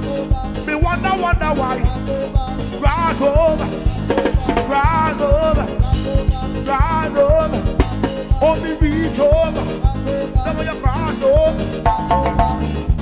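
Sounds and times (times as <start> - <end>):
drum kit with cymbals: 0.0 - 13.0
melodic lead line: 0.0 - 13.0.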